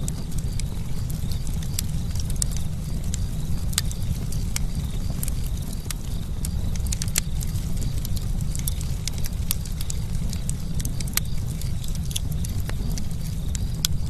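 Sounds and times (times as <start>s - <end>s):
burning wood crackling: 0.0s - 14.0s
campfire roaring: 0.0s - 14.0s.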